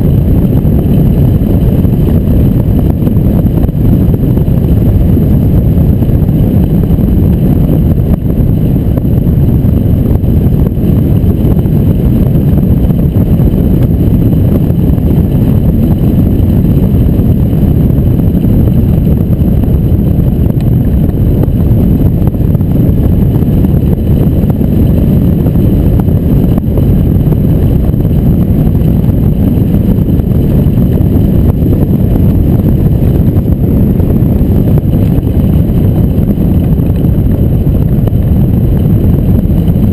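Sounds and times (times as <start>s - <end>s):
low wind rumble: 0.0s - 39.9s.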